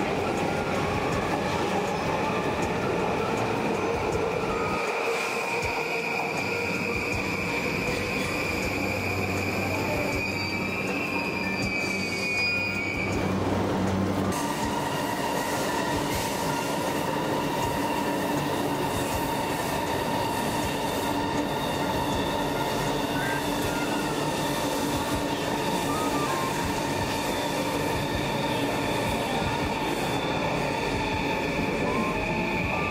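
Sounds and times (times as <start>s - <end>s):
electric train passing with whine: 0.0s - 32.9s
high-speed train passing: 0.0s - 32.9s.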